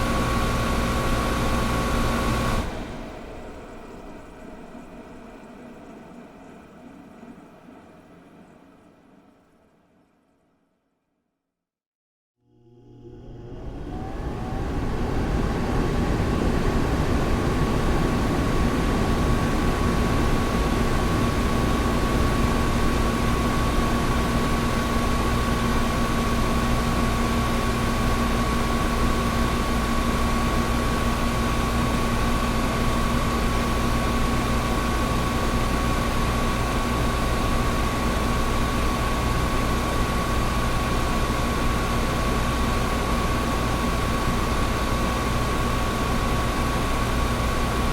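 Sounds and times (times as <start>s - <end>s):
air conditioner running: 0.0s - 5.4s, 12.5s - 47.9s
faint steady whine: 0.0s - 10.8s, 12.5s - 47.9s.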